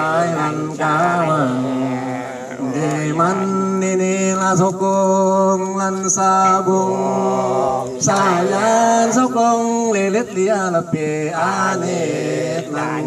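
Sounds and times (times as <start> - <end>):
chant singing: 0.0 - 13.0.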